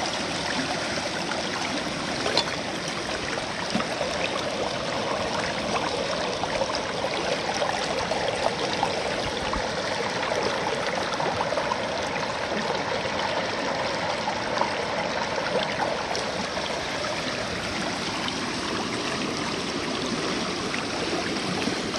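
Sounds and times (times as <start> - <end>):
water splashing and trickling: 0.0 - 21.9.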